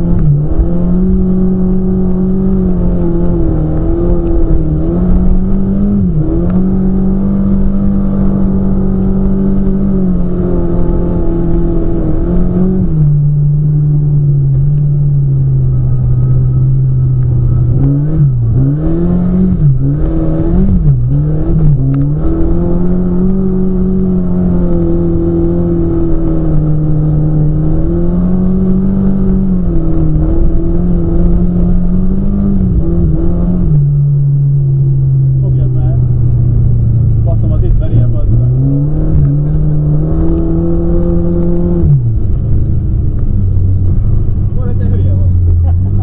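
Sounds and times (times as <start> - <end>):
car engine running: 0.0 - 46.0.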